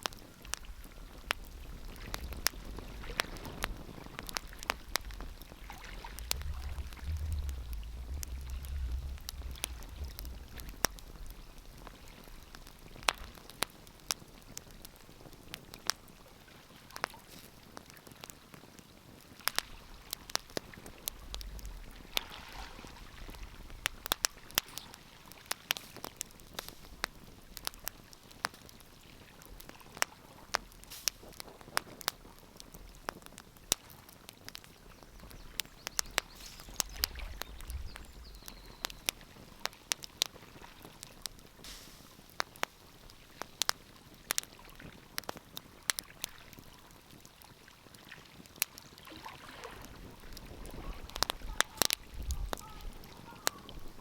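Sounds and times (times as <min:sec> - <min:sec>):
wood fire crackling: 0:00.0 - 0:49.1, 0:49.7 - 0:54.0
soft steady hiss: 0:00.0 - 0:54.0.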